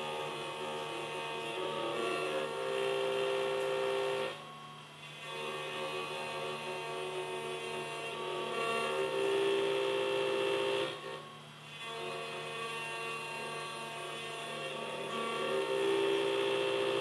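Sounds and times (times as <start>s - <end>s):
cnc router whine: 0.0s - 17.0s.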